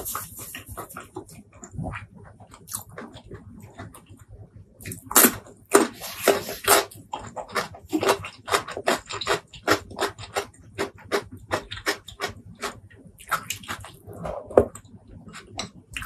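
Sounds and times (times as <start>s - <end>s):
steady chewing: 0.0s - 16.0s.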